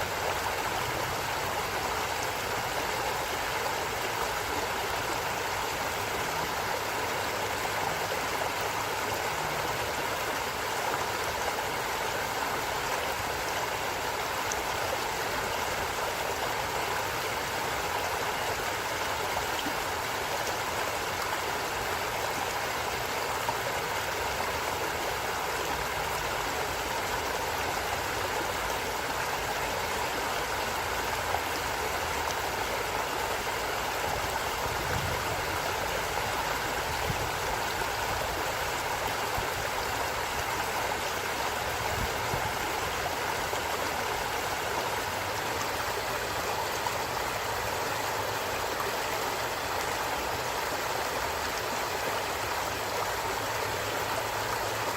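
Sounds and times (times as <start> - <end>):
stream of running water: 0.0 - 54.9.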